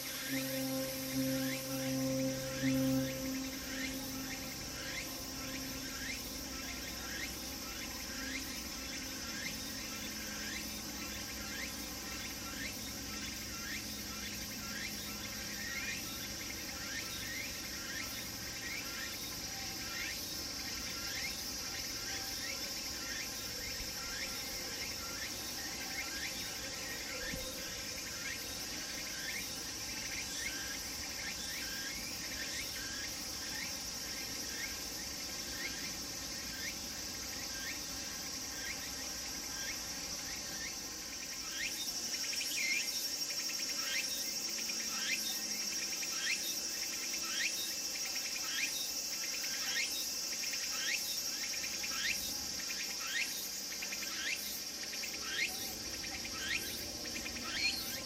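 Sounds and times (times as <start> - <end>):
cicadas droning: 0.0 - 58.0
repeated cicada calls: 0.0 - 58.0.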